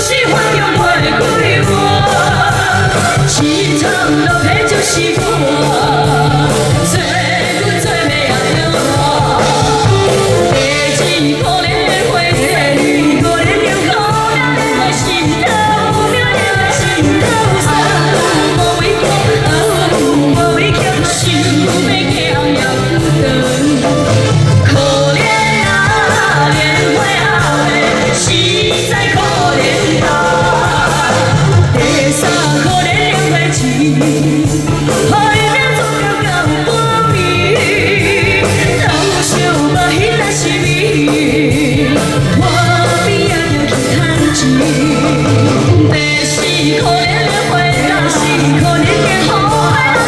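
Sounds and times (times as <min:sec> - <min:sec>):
drum kit: 0:00.0 - 0:50.0
electric guitar: 0:00.0 - 0:50.0
women singing into microphones: 0:00.0 - 0:50.0.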